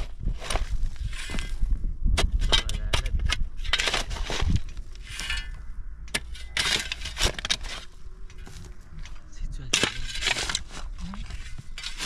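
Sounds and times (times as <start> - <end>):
crunching scrapes: 0.0 - 5.6, 6.2 - 12.0.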